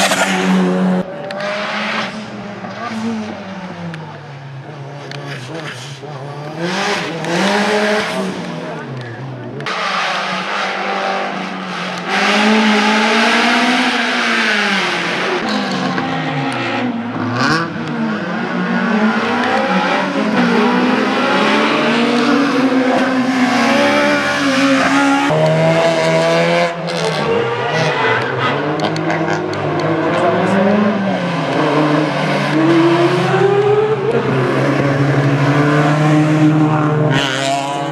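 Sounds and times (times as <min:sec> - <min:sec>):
race car engine revving: 0:00.0 - 0:37.9.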